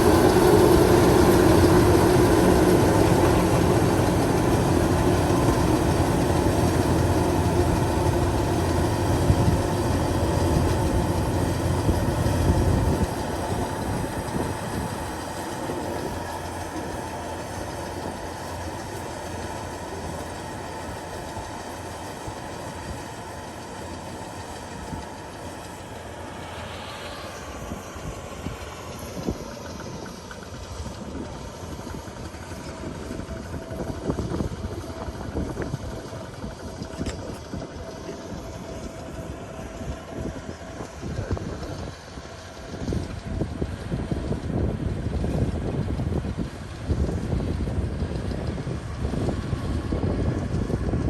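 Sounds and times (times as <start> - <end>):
combine harvester running: 0.0 - 51.0.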